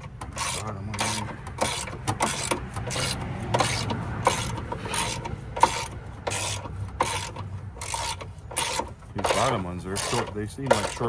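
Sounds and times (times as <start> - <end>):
ratchet wrench rasping: 0.0 - 11.0.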